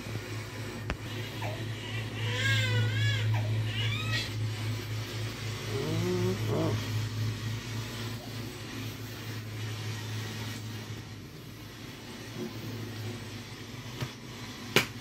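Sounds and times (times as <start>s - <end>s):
short rising whine: 0.0s - 13.8s
low machine hum: 0.0s - 15.0s.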